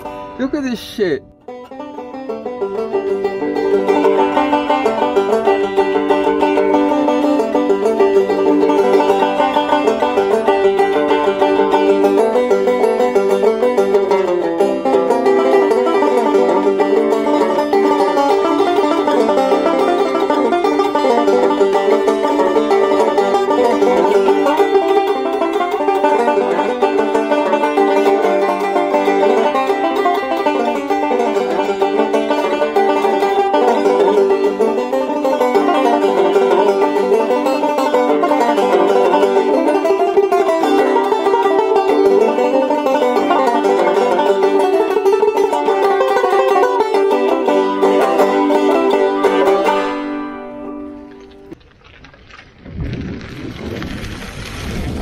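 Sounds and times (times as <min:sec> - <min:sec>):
background instrumental music: 0:01.2 - 0:51.6.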